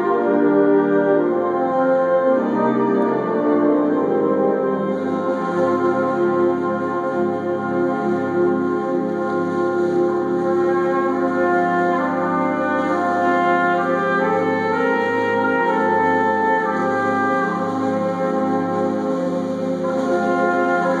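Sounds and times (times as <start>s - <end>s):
wind band playing chords: 0.0s - 21.0s.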